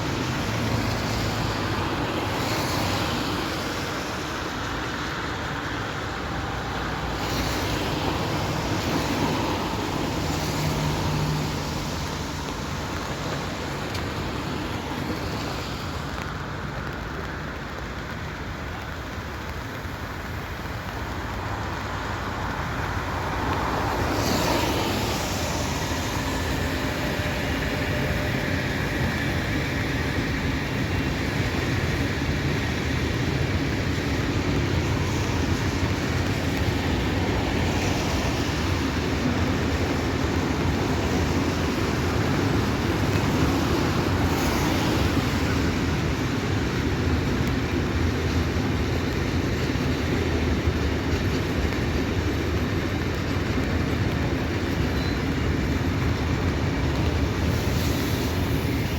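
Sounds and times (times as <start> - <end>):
vehicle rumble and rushing: 0.0 - 18.6, 19.8 - 58.9.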